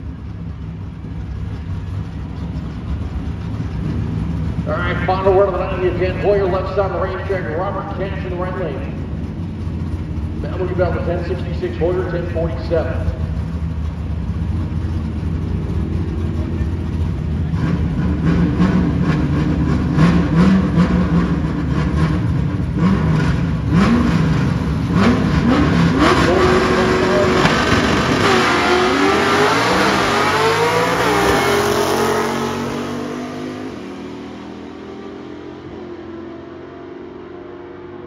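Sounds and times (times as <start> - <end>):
race car engines accelerating: 0.0 - 38.0.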